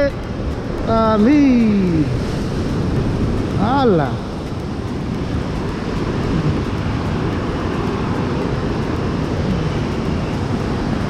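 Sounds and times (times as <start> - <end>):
ocean surf breaking on rocks: 0.0 - 11.0
wind rumbling on microphone: 0.0 - 11.0.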